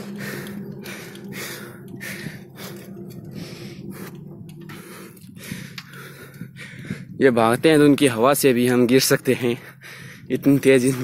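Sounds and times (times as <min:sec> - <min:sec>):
man breathing hard: 0:00.0 - 0:07.2, 0:09.4 - 0:11.0
steady low hum: 0:00.0 - 0:11.0.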